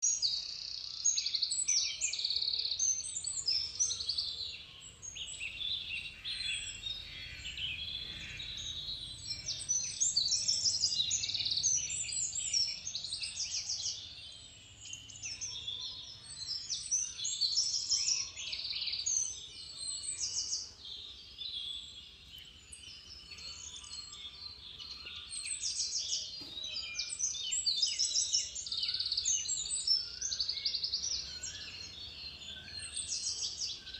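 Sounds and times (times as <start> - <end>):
small birds chirping and trilling: 0.0 - 33.9.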